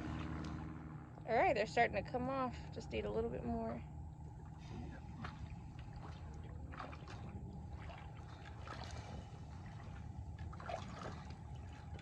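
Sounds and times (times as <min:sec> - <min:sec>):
water sloshing and dribbling: 0:00.0 - 0:01.4, 0:03.2 - 0:12.0.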